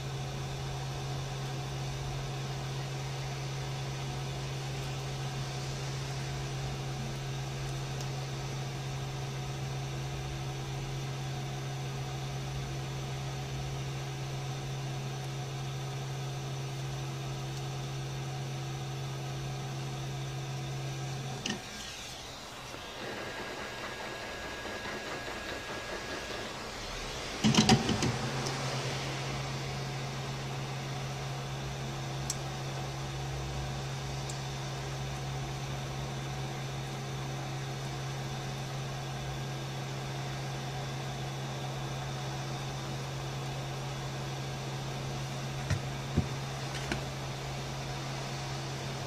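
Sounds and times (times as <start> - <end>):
small electric machine humming: 0.0 - 49.0.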